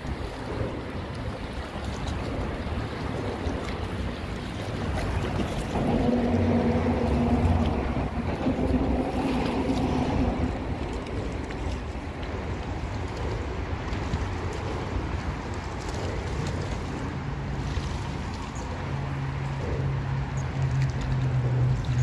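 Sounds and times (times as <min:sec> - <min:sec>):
fast-flowing river: 0:00.0 - 0:22.0
wind rumbling on microphone: 0:00.0 - 0:22.0.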